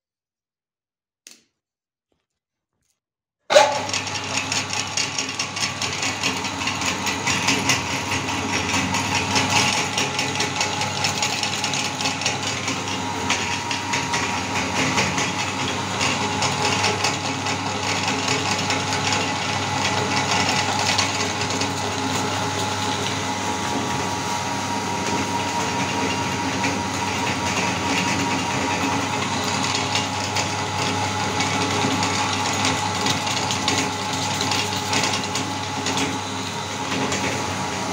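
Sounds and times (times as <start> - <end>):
meat grinder motor humming: 3.5 - 37.9.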